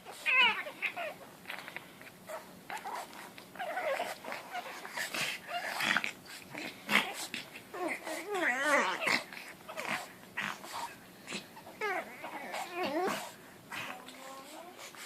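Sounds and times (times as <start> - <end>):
puppies crying: 0.0 - 1.3, 2.3 - 14.7.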